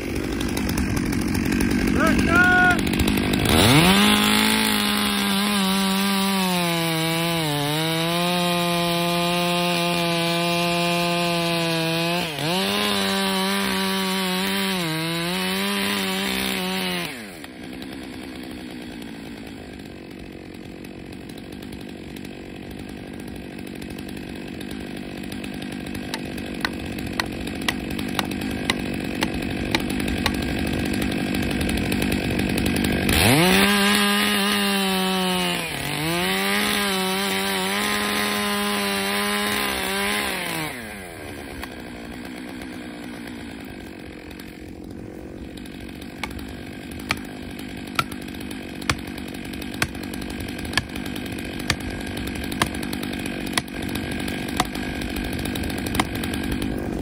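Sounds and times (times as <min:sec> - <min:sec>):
chainsaw cutting and idling: 0:00.0 - 0:57.0.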